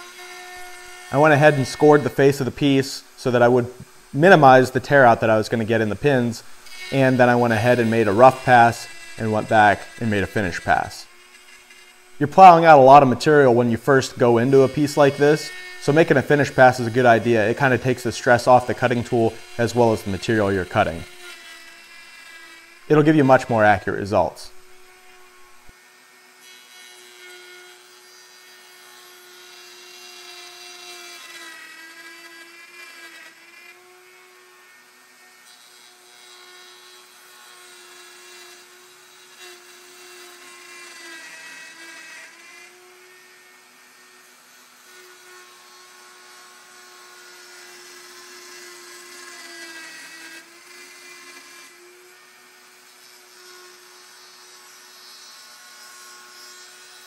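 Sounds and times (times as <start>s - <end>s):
router motor cutting wood: 0.0s - 57.0s.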